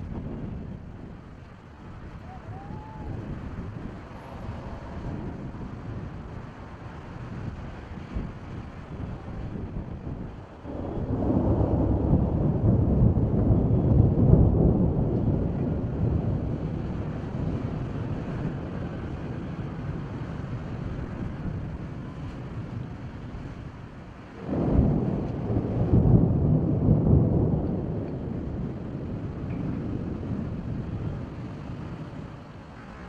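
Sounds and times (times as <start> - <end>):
thunder clap and rumble: 0.0 - 33.0.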